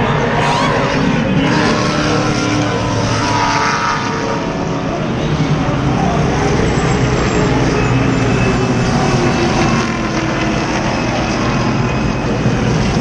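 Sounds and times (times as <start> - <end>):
engine and track noise: 0.0 - 13.0
race car engines at low speed: 0.0 - 13.0.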